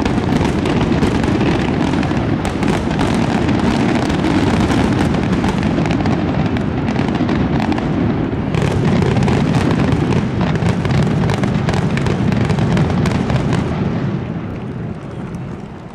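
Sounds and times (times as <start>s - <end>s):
fireworks bursting rumble: 0.0s - 15.9s
sharp fireworks cracks: 0.0s - 15.9s.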